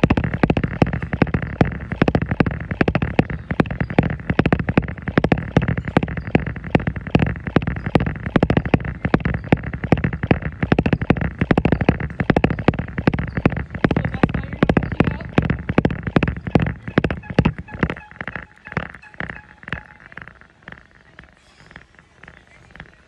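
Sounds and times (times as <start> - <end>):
treadmill running: 0.0 - 23.0.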